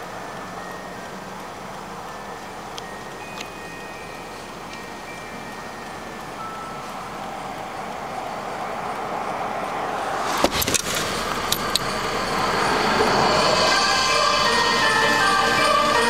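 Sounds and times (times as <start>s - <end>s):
car noise: 0.0s - 16.0s.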